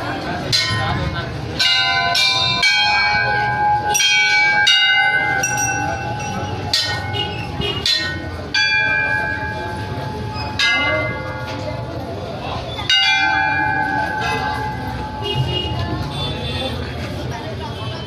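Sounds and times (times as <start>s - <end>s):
temple bells ringing: 0.1s - 18.0s.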